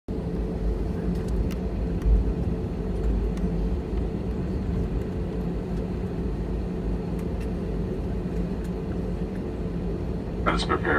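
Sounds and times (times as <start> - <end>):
aircraft cabin rumble and hum: 0.1 - 10.9.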